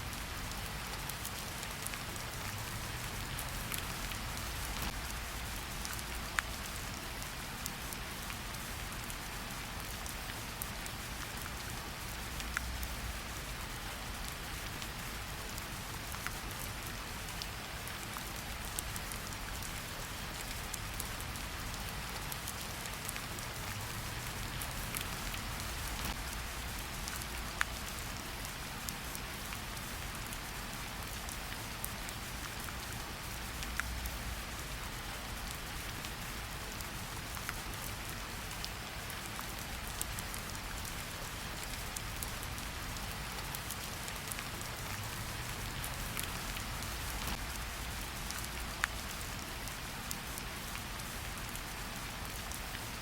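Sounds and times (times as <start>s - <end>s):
raindrops striking close by: 0.0s - 53.0s
steady rain hiss: 0.0s - 53.0s.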